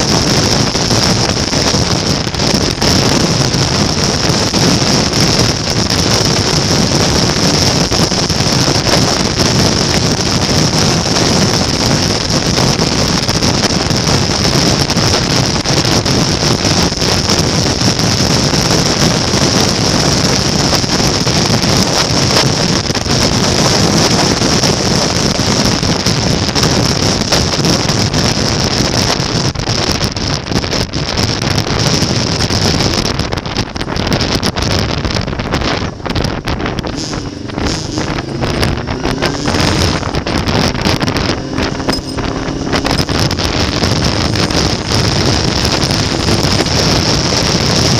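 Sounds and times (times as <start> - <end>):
motorcycle running: 0.0 - 47.9
wind on microphone: 0.0 - 47.9.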